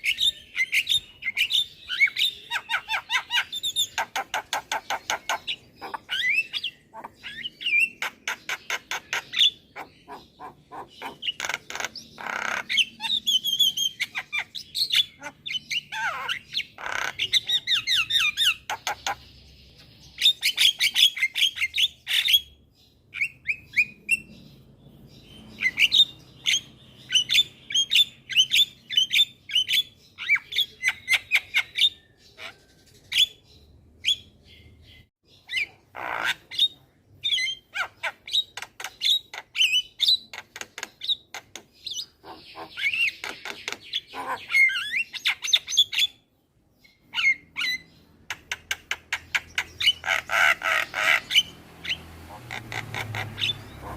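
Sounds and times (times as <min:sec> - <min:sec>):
myna bird singing chirps and squawks: 0:00.0 - 0:53.9.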